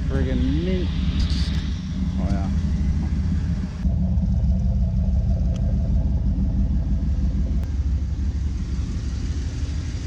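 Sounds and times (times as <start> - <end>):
car engine exhaust rumble: 0.0 - 10.0.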